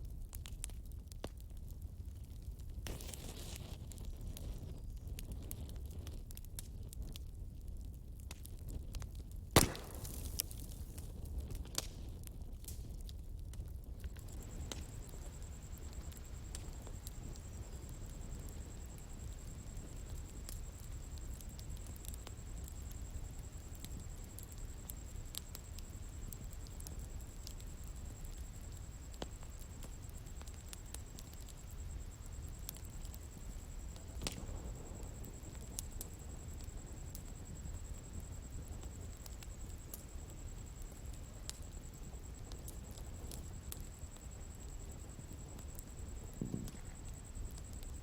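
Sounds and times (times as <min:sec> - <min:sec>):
bonfire crackling: 0:00.0 - 0:48.0.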